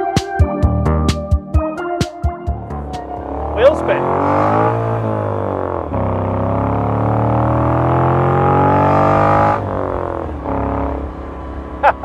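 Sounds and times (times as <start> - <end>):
motorcycle engine accelerating: 2.3 - 12.0.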